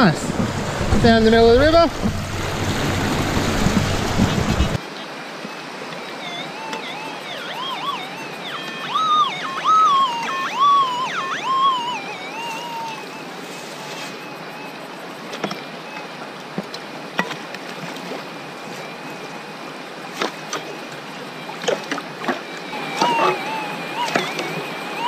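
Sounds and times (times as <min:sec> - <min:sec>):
creek water over gravel: 0:00.0 - 0:07.3, 0:11.5 - 0:25.0.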